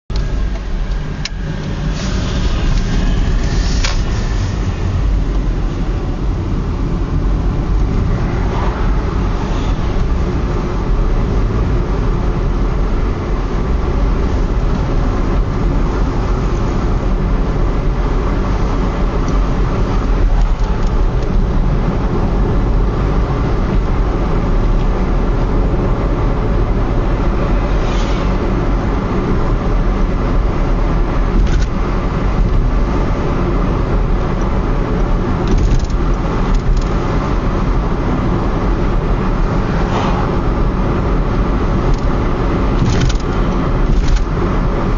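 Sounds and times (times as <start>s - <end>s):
car road and engine noise: 0.0s - 44.9s.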